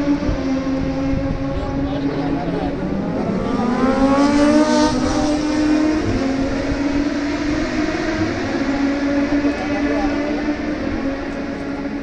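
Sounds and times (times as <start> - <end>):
motorbikes racing past: 0.0 - 12.0.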